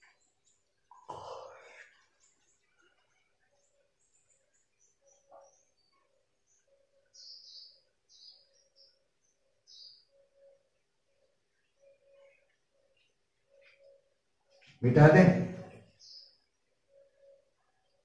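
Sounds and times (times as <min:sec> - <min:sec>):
faint high chirps: 0:00.0 - 0:18.0.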